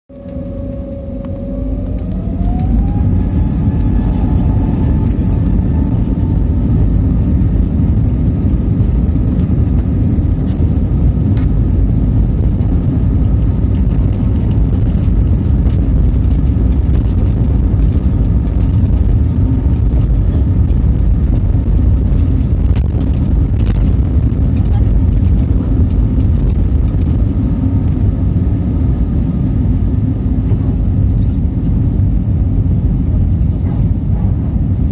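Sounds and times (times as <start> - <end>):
airliner engines spooling up: 0.1 - 34.9.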